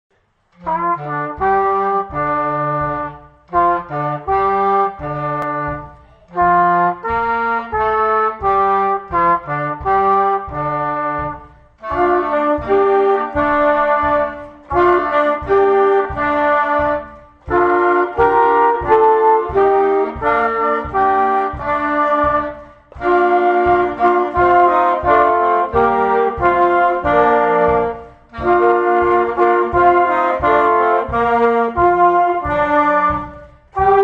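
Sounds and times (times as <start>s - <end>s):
wind band playing chords: 0.6s - 34.0s.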